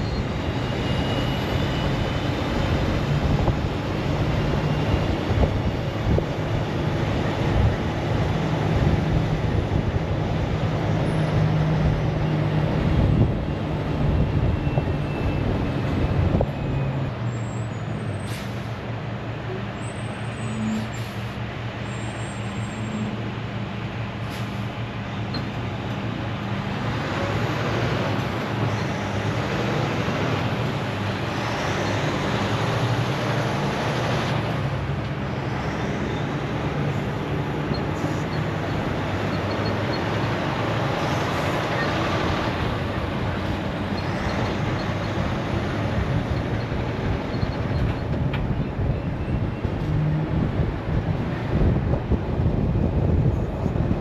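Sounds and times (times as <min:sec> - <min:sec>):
truck engine rumble: 0:00.0 - 0:54.0.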